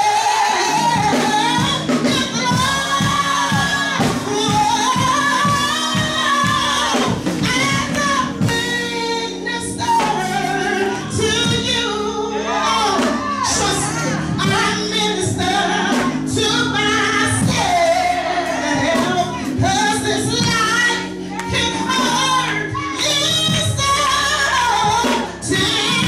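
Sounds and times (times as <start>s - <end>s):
steady beat: 0.0s - 9.0s, 12.9s - 26.0s
backing singers: 0.0s - 26.0s
woman singing lead: 0.0s - 26.0s.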